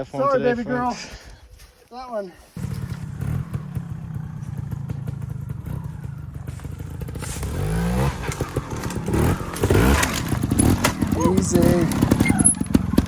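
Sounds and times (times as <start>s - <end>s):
motorcycle engine idling and revving: 2.5s - 13.0s.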